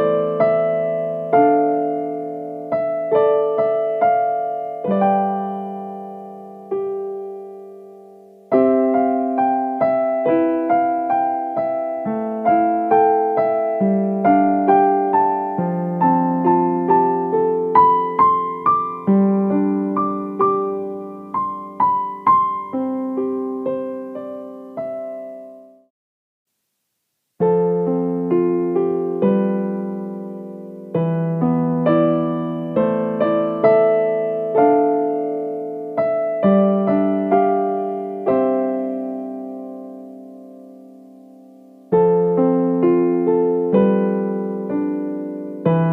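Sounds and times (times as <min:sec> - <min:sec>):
piano music: 0:00.0 - 0:25.9, 0:27.4 - 0:45.9.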